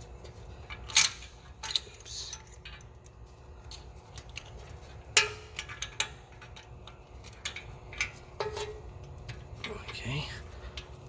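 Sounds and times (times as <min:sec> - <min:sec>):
small metal parts clinking: 0:00.6 - 0:10.8.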